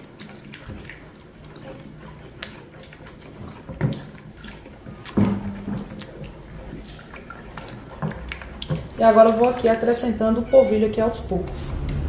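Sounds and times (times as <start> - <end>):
spoon stirring batter: 0.0 - 12.0.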